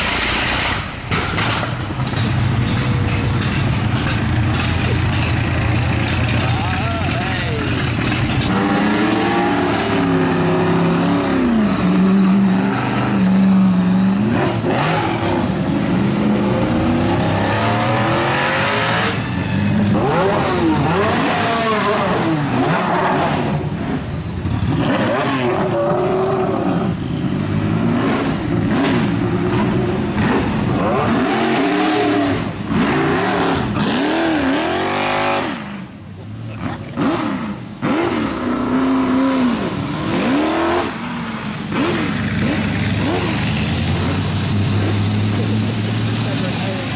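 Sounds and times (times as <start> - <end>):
racing car engines revving: 0.0 - 46.9.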